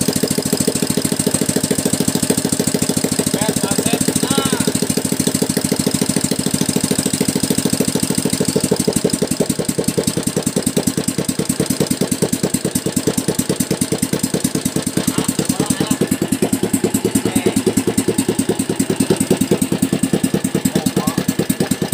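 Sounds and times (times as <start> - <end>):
small engine idling: 0.0 - 21.9.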